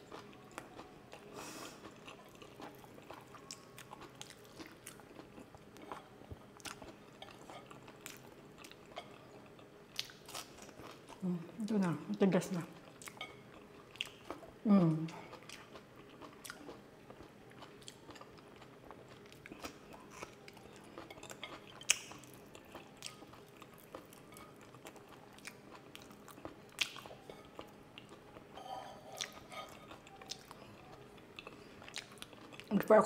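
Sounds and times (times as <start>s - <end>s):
person chewing food: 0.0s - 11.3s, 12.8s - 14.5s, 15.1s - 32.7s.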